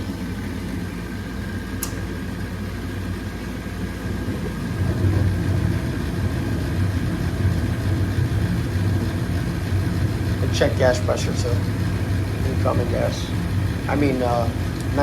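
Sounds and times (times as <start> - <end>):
furnace motor hum: 0.0 - 15.0.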